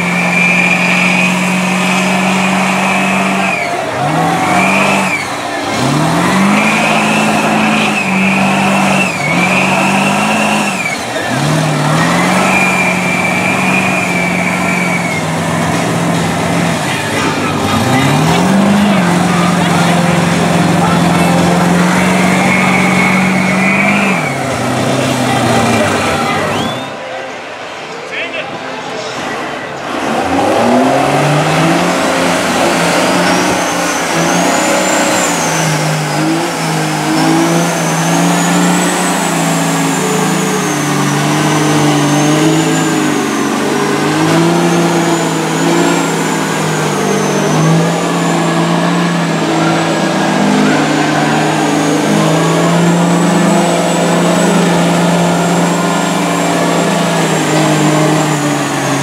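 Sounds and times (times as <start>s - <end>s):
tyres churning through mud: 0.0s - 27.0s, 29.0s - 59.0s
diesel truck engines under load: 0.0s - 59.0s.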